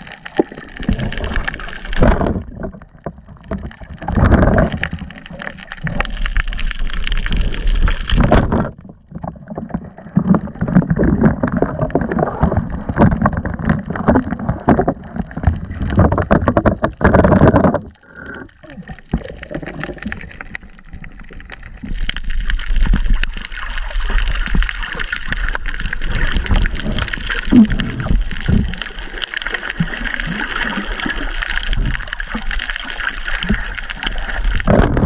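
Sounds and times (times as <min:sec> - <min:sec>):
water rushing underwater: 0:00.0 - 0:35.0.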